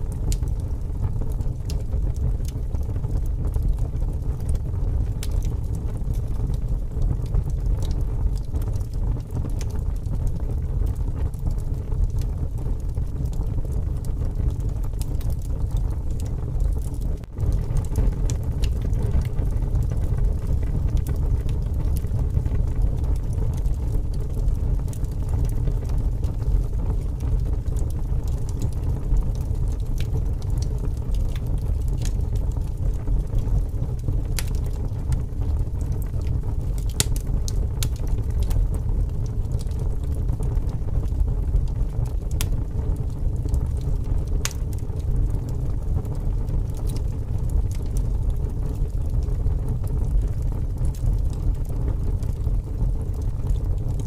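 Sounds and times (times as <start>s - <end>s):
strong wind rumble: 0.0s - 50.9s
wood fire crackling: 0.0s - 54.0s.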